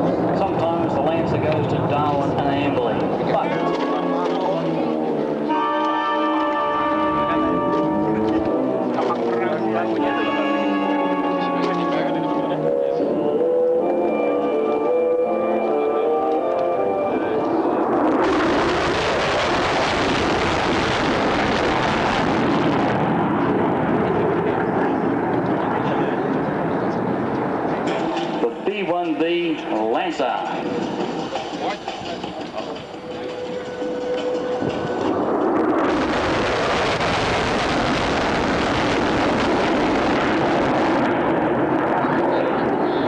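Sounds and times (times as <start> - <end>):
jet aircraft roaring overhead: 0.0 - 43.0.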